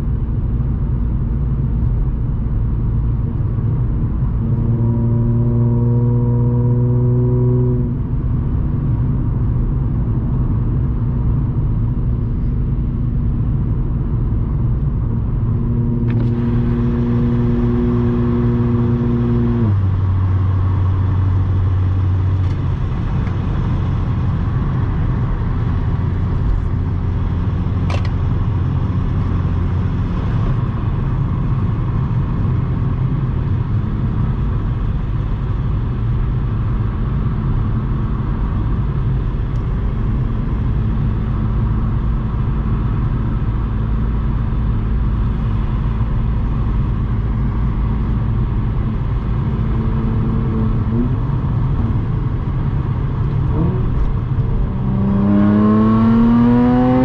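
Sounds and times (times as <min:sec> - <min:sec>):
car engine and exhaust drone: 0:00.0 - 0:57.0
road noise: 0:00.0 - 0:57.0.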